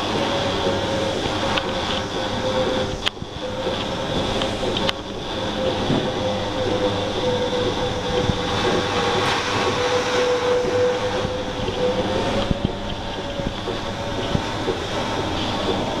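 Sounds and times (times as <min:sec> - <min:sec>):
milking robot humming: 0:00.0 - 0:16.0
rotating brushes cleaning: 0:00.0 - 0:16.0.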